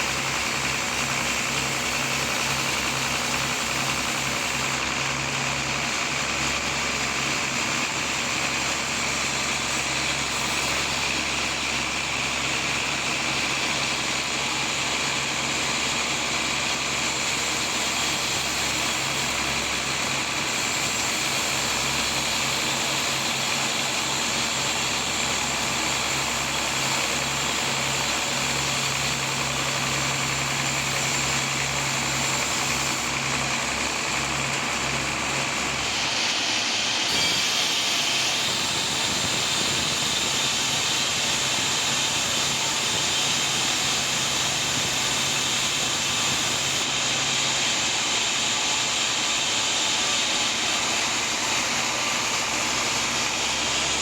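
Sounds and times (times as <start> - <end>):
sawmill machinery sawing log: 0.0 - 54.0.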